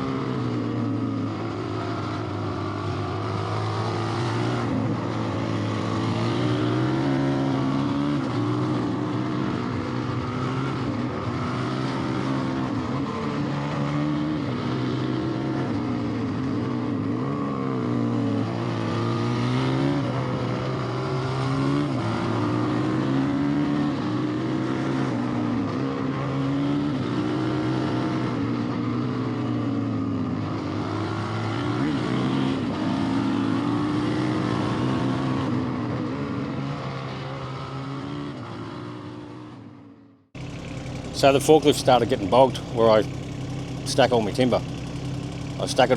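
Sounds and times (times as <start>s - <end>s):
engine revving under load: 0.0s - 39.6s, 40.4s - 45.9s.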